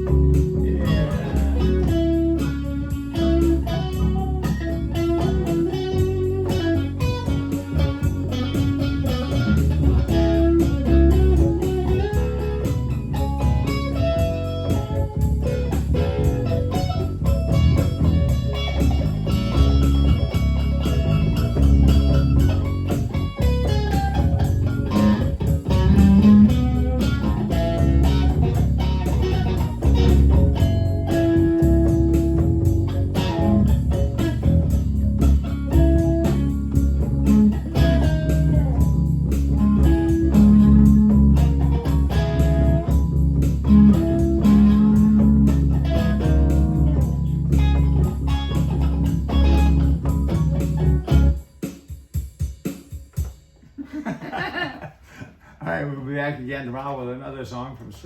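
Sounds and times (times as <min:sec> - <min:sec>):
bass line: 0:00.0 - 0:51.5
bluesy lead guitar: 0:00.0 - 0:51.5.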